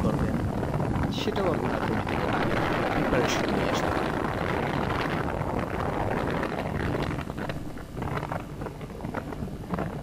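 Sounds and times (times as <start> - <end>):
rushing water: 0.0 - 10.0
speedboat motor drone: 0.0 - 10.0
wind buffeting microphone: 0.0 - 10.0.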